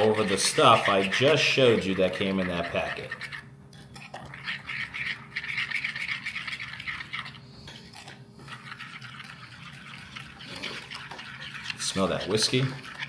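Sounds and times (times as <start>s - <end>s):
fork whisking in glass bowl: 0.0s - 13.0s.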